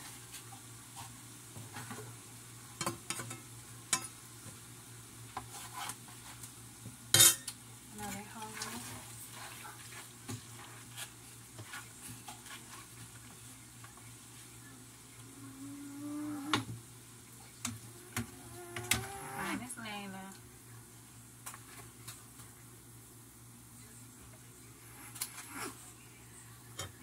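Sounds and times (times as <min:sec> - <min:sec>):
faint sizzle from frying pan: 0:00.0 - 0:27.0.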